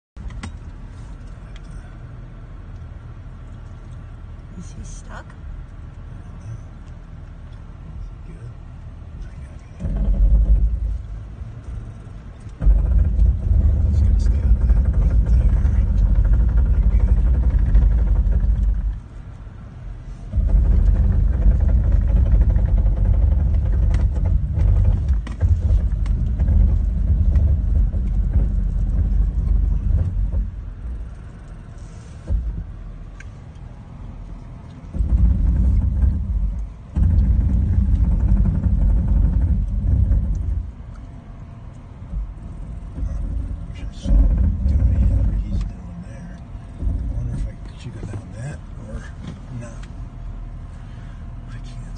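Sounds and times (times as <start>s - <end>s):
vehicle rumble from inside cabin: 0.0s - 51.9s.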